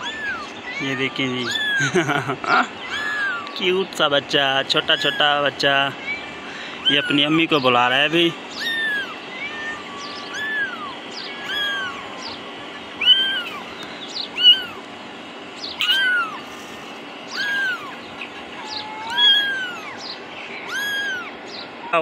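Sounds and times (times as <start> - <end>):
kitten mewing: 0.0 - 14.9, 15.6 - 22.0.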